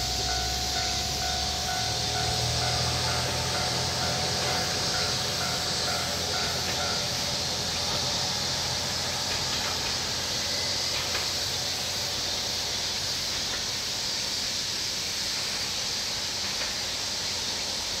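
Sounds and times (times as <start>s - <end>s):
cicadas chorus: 0.0s - 18.0s.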